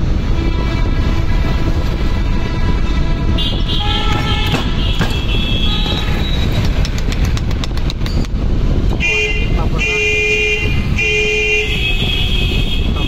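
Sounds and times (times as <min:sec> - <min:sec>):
road traffic rumble: 0:00.0 - 0:13.0
vehicle horns: 0:00.1 - 0:06.6, 0:08.9 - 0:13.0.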